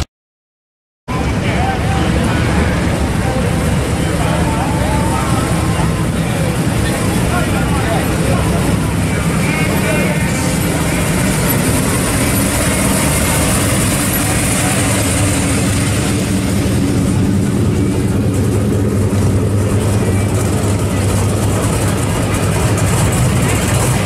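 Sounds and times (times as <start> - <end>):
car engines idling: 1.1 - 24.0
crowd chatter: 1.1 - 24.0.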